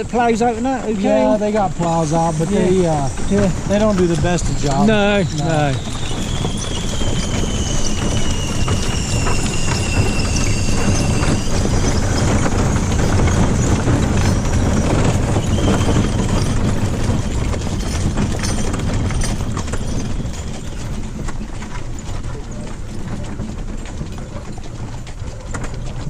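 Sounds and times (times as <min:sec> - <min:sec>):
coach rumbling and rattling: 0:00.0 - 0:26.0
horses clip-clopping on dirt: 0:00.0 - 0:26.0.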